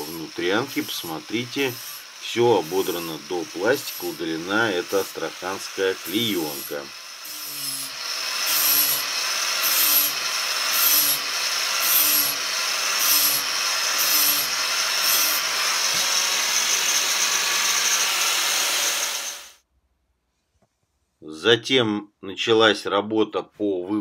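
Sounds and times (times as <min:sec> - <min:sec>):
power tool grinding fibreglass: 0:00.0 - 0:19.6.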